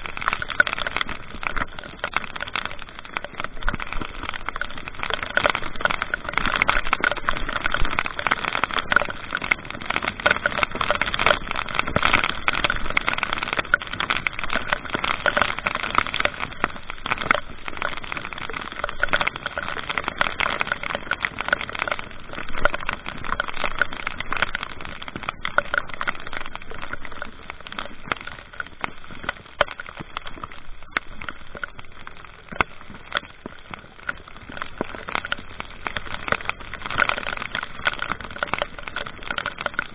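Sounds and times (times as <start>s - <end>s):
road and wind noise: 0.0s - 39.9s
sharp crackling clicks: 0.0s - 39.9s.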